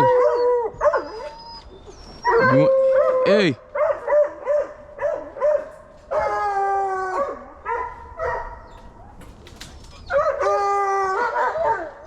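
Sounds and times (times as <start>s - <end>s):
hound baying and howling: 0.0s - 12.0s.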